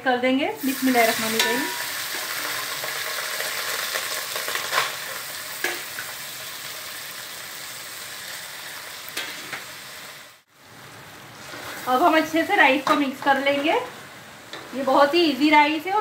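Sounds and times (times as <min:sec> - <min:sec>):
oil sizzling under rice: 0:00.6 - 0:16.0.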